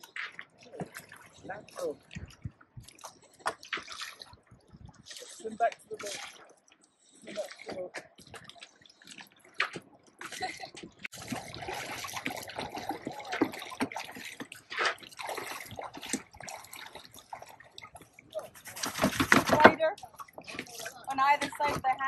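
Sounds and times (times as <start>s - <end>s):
water splashing: 0.0s - 22.0s.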